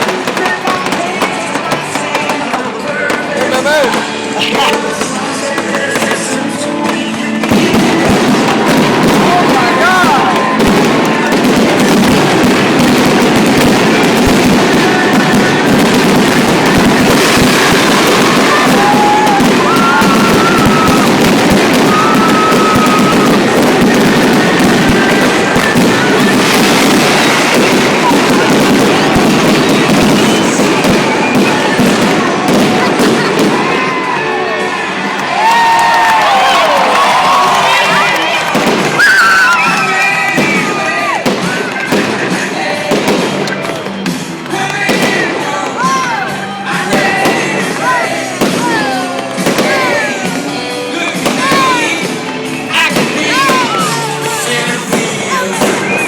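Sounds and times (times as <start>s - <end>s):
fireworks bangs and crackling: 0.0s - 56.0s
loud music playing: 0.0s - 56.0s.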